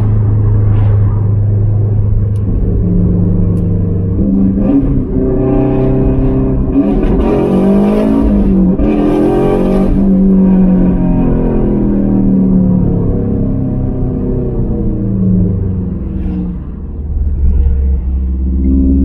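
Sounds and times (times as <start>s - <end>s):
car engine accelerating from inside cabin: 0.7s - 19.0s.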